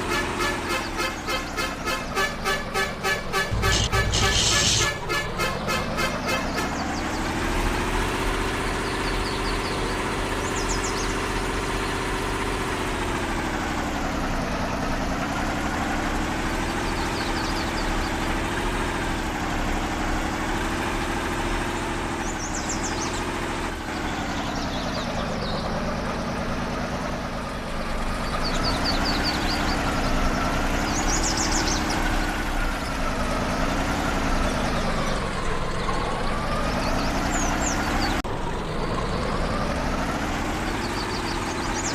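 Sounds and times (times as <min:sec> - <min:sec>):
off-road vehicle engine running: 0:00.0 - 0:41.9.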